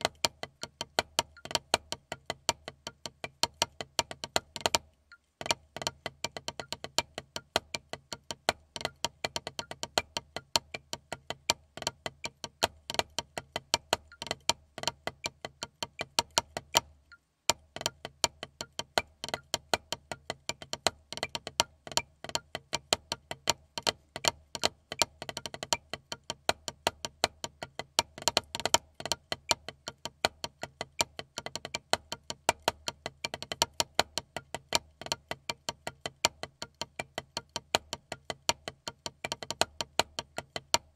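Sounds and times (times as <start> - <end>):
drumsticks tapping practice pad: 0.0 - 40.9.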